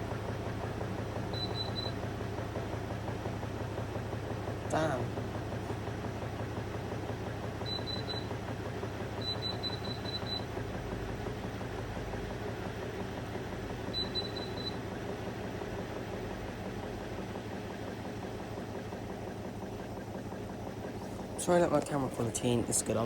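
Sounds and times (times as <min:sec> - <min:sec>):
washing machine rumbling: 0:00.0 - 0:23.0.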